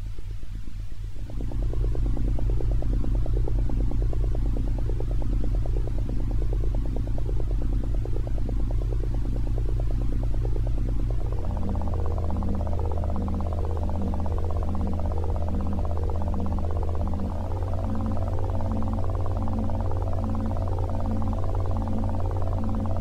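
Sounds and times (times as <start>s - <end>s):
low electronic drone pulsing: 0.0s - 23.0s.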